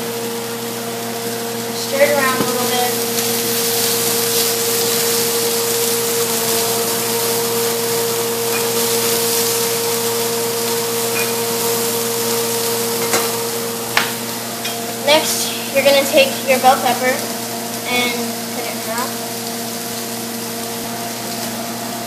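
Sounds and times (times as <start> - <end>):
fan motor hum: 0.0 - 22.0
stir fry sizzling in a pan: 0.0 - 22.0.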